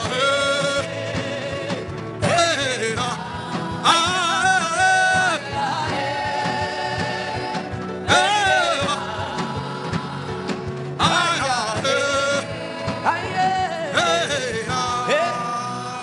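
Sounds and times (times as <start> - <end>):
held keyboard chords: 0.0 - 16.0
person singing: 0.0 - 16.0
steady beat: 0.0 - 16.0.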